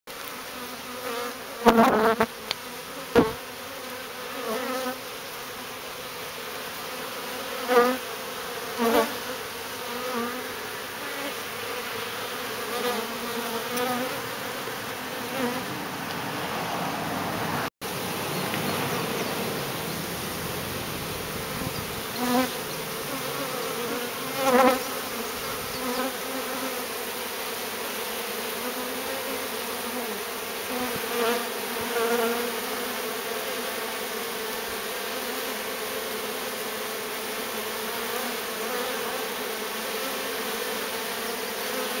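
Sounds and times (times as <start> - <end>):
bees buzzing past: 0.1 - 42.0
swarm of bees humming: 0.1 - 42.0.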